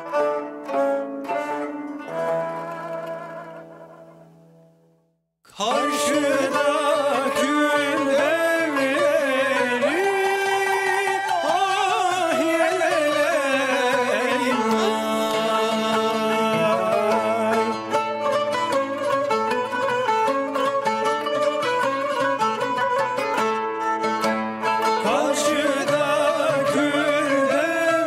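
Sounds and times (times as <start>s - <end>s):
bowed fiddle melody: 0.0s - 4.6s, 5.6s - 28.0s
plucked strings: 0.0s - 4.9s, 5.5s - 28.0s.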